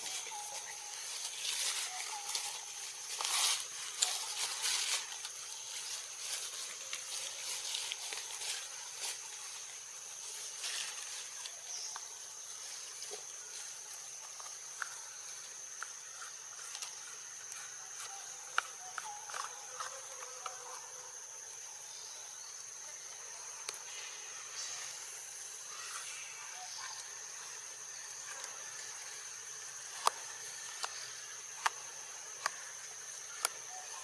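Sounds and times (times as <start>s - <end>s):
high-pitched insect drone: 0.0s - 34.0s.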